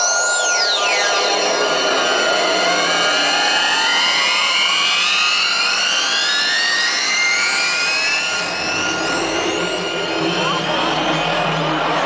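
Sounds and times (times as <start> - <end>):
electronic riser sweep: 0.0 - 12.0.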